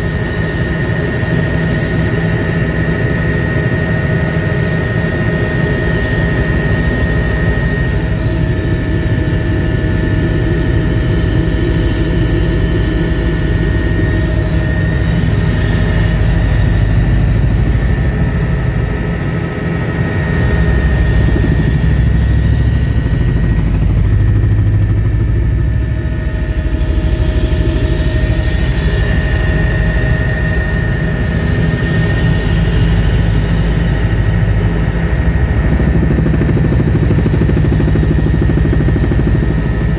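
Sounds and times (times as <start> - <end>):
helicopter rotor and engine noise: 0.0 - 39.9.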